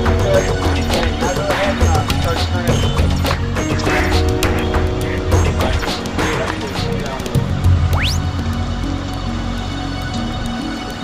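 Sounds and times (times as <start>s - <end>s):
music with held notes and beat: 0.0s - 11.0s.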